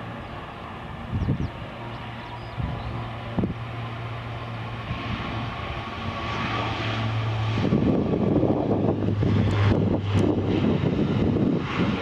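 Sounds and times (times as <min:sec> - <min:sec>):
engine whine: 0:00.0 - 0:12.0
turboprop propeller drone: 0:00.0 - 0:12.0.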